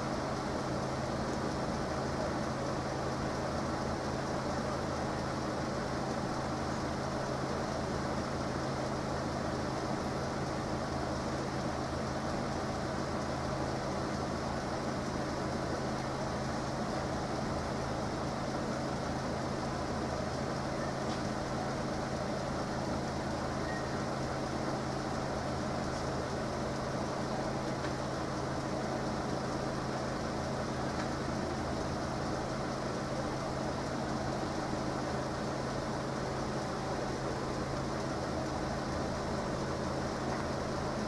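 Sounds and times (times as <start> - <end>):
vehicle engines idling: 0.0 - 41.0.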